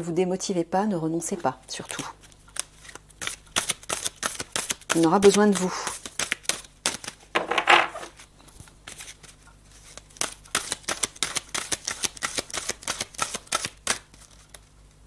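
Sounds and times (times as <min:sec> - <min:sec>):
cards being shuffled: 0:01.8 - 0:14.8.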